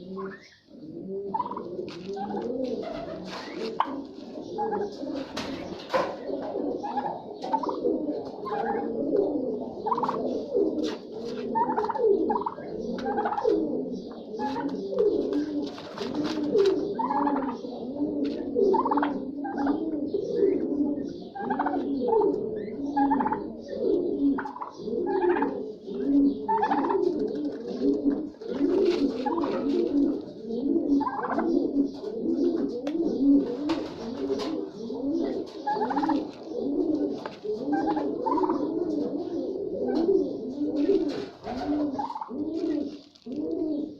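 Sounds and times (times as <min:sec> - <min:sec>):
flock of birds cooing: 0:00.0 - 0:43.9.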